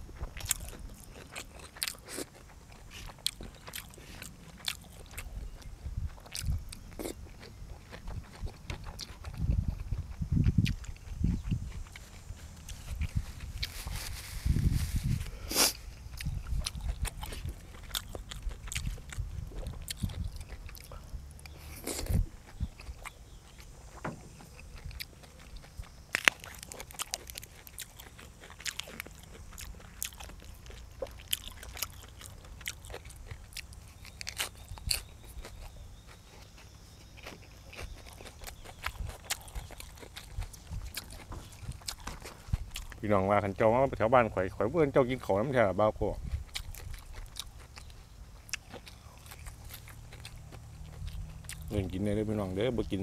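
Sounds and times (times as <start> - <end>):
person biting and chewing food: 0.0 - 43.0, 46.1 - 53.0.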